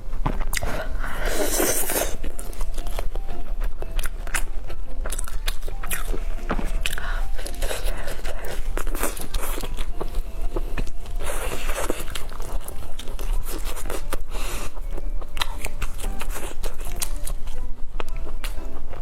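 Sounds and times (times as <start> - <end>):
close biting and chewing: 0.3 - 19.0.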